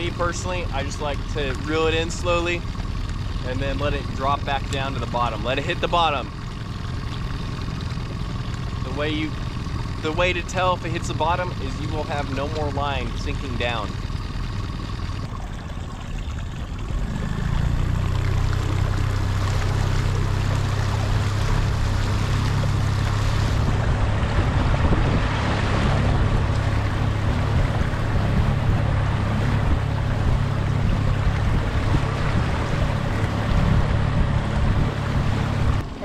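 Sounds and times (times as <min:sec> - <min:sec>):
small boat motor humming: 0:00.0 - 0:36.0
water noise: 0:00.0 - 0:36.0
wind: 0:00.0 - 0:36.0.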